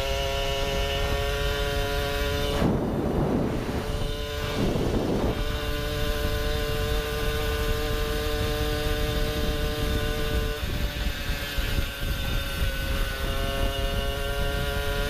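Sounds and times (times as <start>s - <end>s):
moped engine cruising: 0.0s - 15.0s
wind rumble on microphone: 0.0s - 15.0s.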